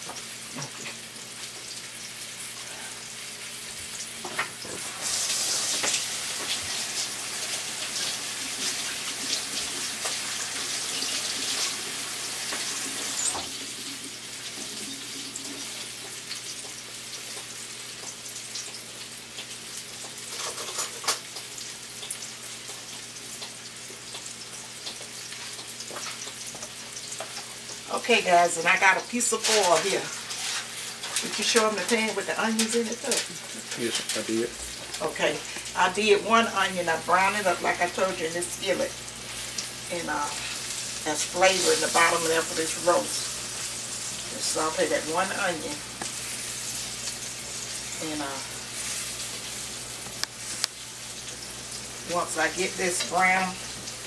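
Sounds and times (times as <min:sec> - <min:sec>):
meat sizzling in hot oil: 0:00.0 - 0:54.0.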